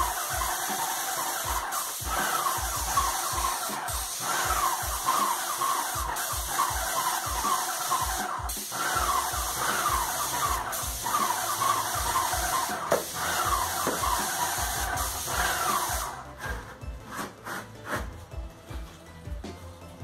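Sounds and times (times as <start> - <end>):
paint sprayer hissing: 0.0 - 18.1.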